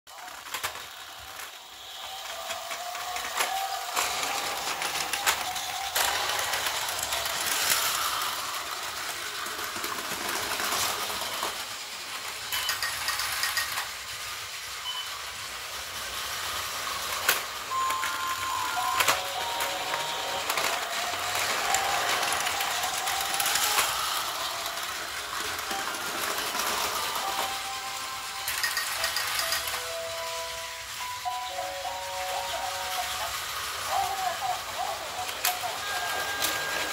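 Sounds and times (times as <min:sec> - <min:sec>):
toy train whirring and rattling: 0:00.1 - 0:36.9.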